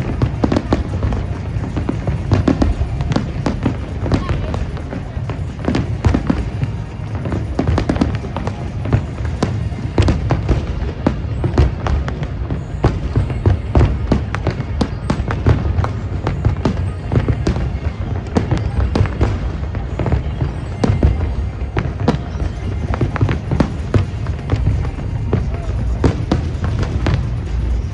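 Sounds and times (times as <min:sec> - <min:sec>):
fireworks bursting: 0:00.0 - 0:27.9
music playing: 0:00.0 - 0:27.9.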